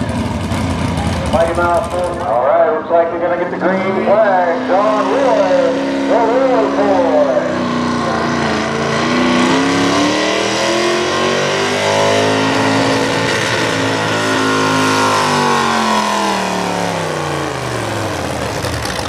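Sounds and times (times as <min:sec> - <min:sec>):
engine running hard under load: 0:00.0 - 0:19.0.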